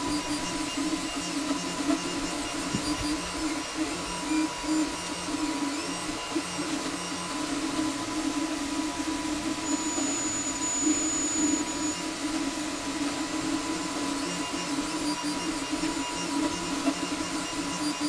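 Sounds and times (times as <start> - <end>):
stepper motors whirring: 0.0 - 18.0.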